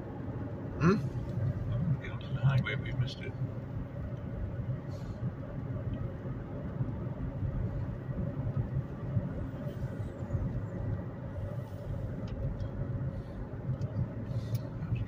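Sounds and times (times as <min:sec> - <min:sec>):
car road noise: 0:00.0 - 0:15.0
engine rumble: 0:00.0 - 0:15.0.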